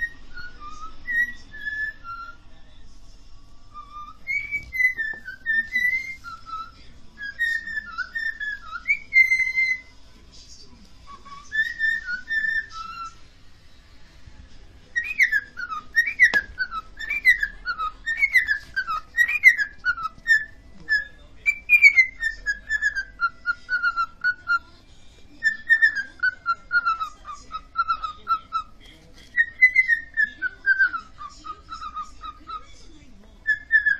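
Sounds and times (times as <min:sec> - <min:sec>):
parrot whistling a tune: 0:00.0 - 0:02.4, 0:03.7 - 0:09.9, 0:11.0 - 0:13.2, 0:14.9 - 0:24.7, 0:25.4 - 0:32.7, 0:33.4 - 0:33.9.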